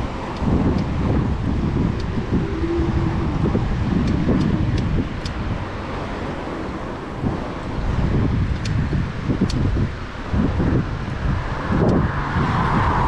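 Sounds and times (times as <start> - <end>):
road traffic: 0.0 - 13.0
wind buffeting microphone: 0.0 - 13.0.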